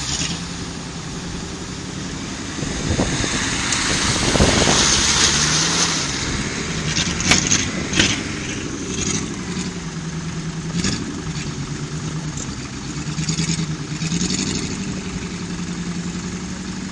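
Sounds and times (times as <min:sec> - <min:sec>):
off-road engine running: 0:00.0 - 0:16.9.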